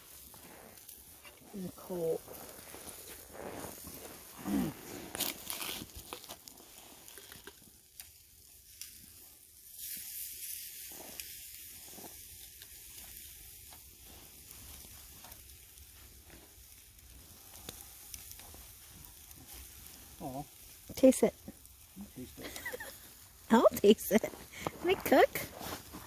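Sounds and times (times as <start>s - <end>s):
meat sizzling on a grill: 0.0s - 26.0s.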